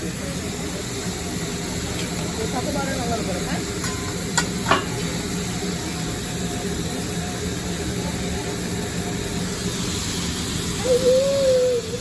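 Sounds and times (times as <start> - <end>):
food sizzling: 0.0 - 12.0
griddle and hood hiss: 0.0 - 12.0.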